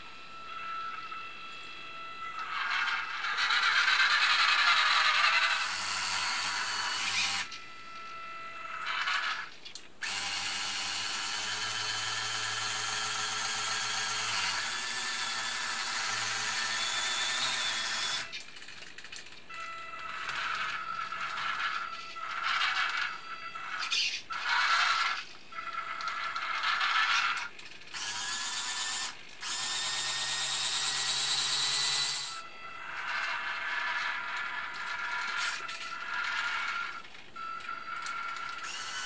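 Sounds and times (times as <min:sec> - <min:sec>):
electric motors whirring: 0:00.0 - 0:39.0.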